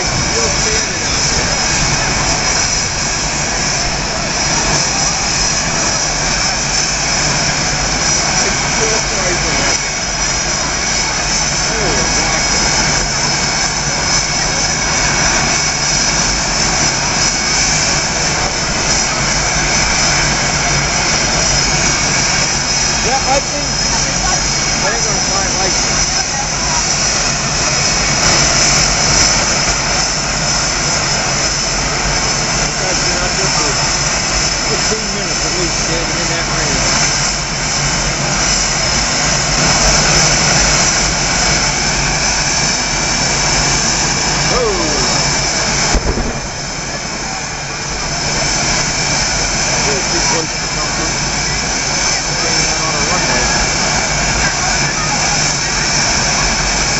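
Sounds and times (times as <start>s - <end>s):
jet engines with high whine: 0.0s - 56.9s.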